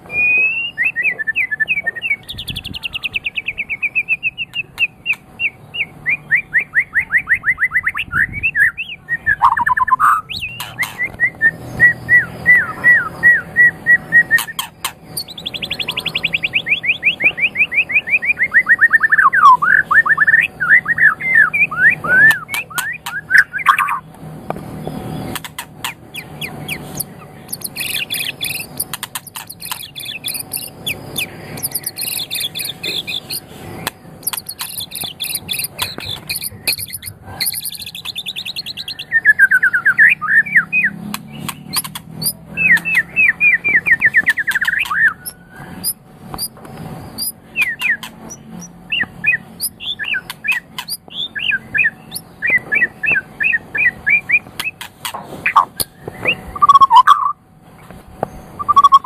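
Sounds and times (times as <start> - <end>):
songbird singing varied song: 0.0 - 57.4, 58.2 - 59.0.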